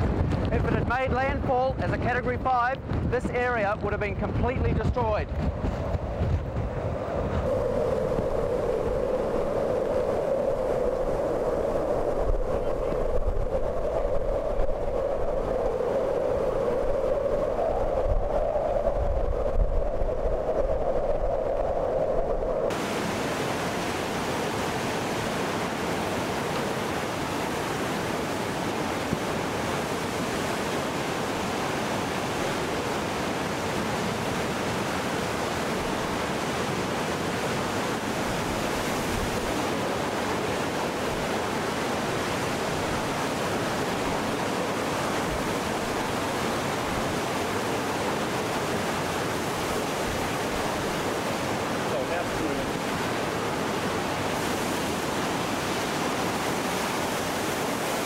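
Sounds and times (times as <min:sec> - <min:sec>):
breaking waves: 0:00.0 - 0:58.0
wind: 0:00.0 - 0:58.0.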